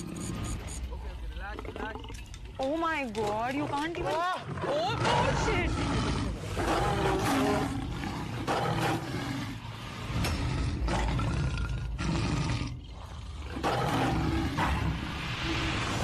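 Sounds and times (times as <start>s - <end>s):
lions growling: 0.0s - 2.6s, 3.2s - 15.3s.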